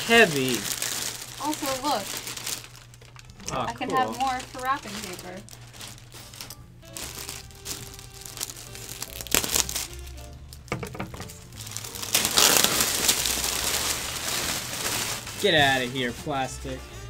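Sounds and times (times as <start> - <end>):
plastic wrapping crinkling: 0.0 - 16.5.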